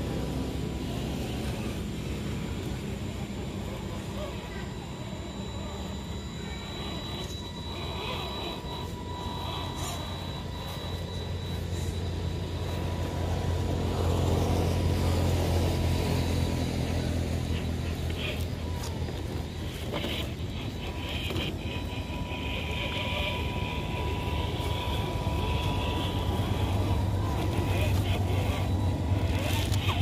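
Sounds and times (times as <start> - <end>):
motor humming with thin whine: 0.0 - 30.0.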